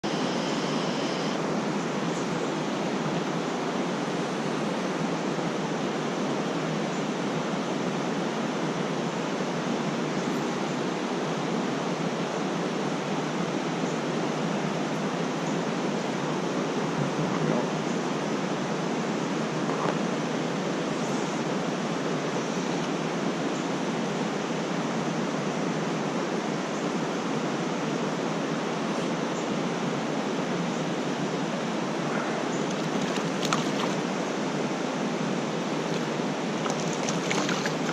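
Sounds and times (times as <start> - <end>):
fast creek rushing: 0.1 - 37.9.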